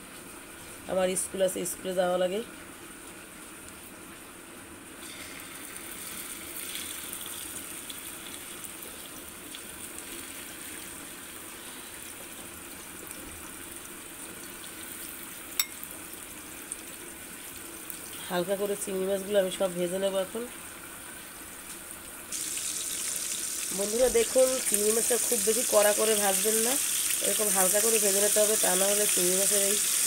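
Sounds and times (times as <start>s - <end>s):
prawns sizzling in hot oil: 5.0s - 19.6s, 20.5s - 30.0s.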